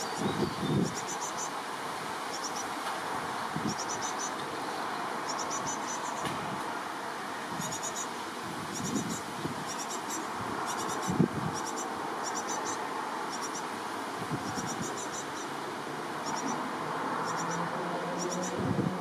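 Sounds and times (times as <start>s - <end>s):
young birds high thin calls: 0.0s - 1.6s, 2.3s - 2.8s, 3.6s - 6.4s, 7.4s - 15.6s, 16.2s - 18.6s
steady background hiss: 0.0s - 19.0s.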